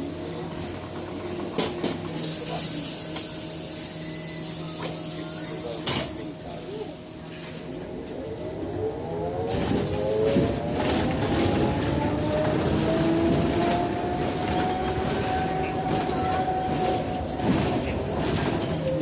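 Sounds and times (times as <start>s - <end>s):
low rumble of moving bus: 0.0s - 19.0s.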